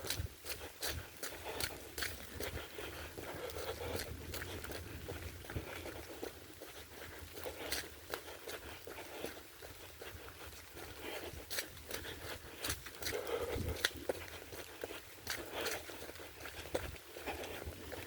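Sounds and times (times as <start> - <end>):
footsteps on muddy trail: 0.0 - 18.0
rain falling on trees: 0.0 - 18.0.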